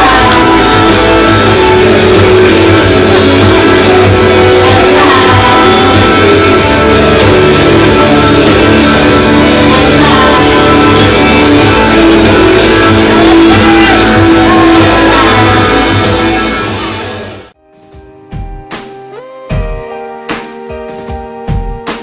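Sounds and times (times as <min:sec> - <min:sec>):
loud music with guitar: 0:00.0 - 0:22.0.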